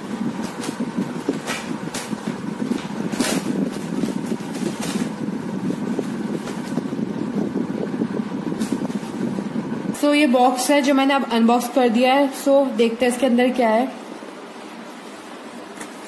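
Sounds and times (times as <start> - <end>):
low background rumble: 0.0 - 14.7.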